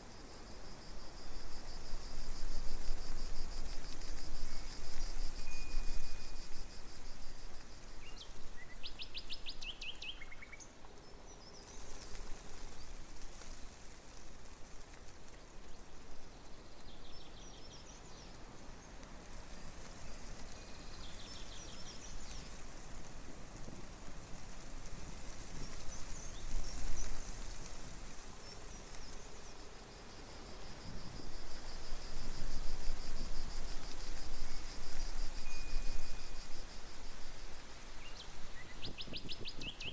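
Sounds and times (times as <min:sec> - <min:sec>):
background hiss: 0:00.0 - 0:39.9
insects chirping: 0:00.0 - 0:39.9.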